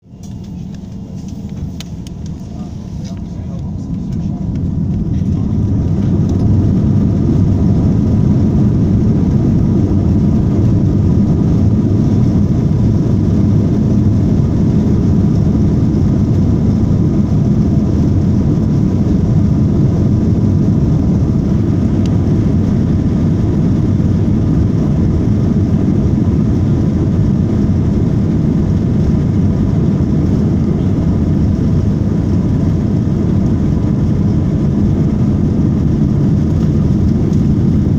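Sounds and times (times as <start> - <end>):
faint engine whine: 0.0 - 37.9
jet engines low rumble: 0.0 - 37.9.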